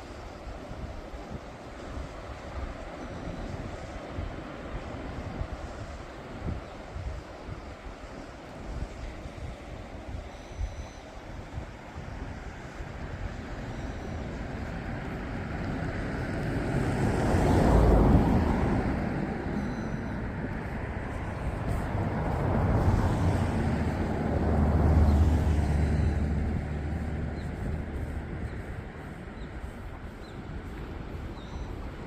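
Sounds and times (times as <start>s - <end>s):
sea waves breaking: 0.0s - 32.0s
wind rumbling on microphone: 0.0s - 32.0s.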